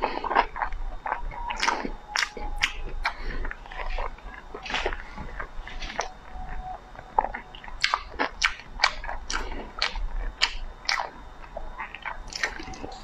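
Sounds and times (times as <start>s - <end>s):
person chewing with wet clicks: 0.0s - 13.0s.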